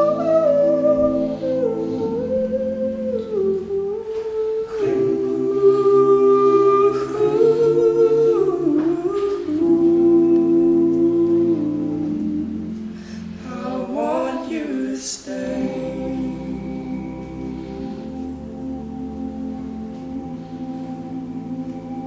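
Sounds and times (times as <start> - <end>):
men humming harmonies: 0.0 - 22.0.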